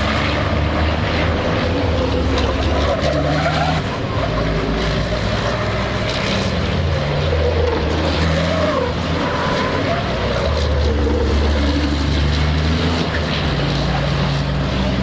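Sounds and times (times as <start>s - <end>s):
truck engines changing gear: 0.0s - 15.0s.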